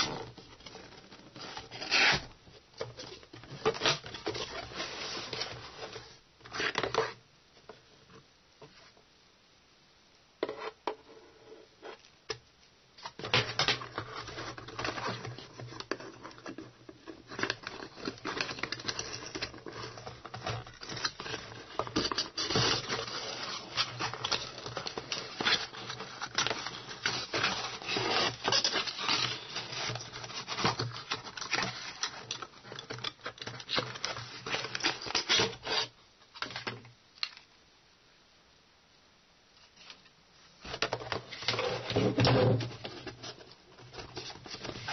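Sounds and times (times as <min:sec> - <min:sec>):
cables and cardboard handled: 0:00.0 - 0:09.0, 0:13.0 - 0:37.5, 0:39.7 - 0:44.9.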